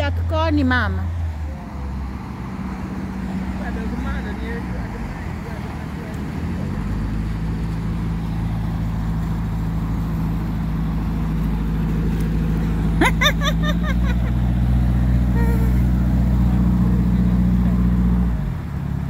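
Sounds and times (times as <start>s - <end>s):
motorboat engine humming: 0.0s - 19.0s.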